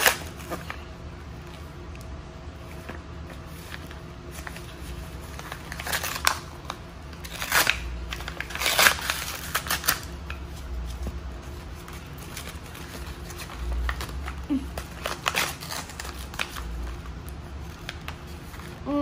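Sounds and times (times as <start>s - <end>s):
packaging rustling: 0.0s - 18.8s.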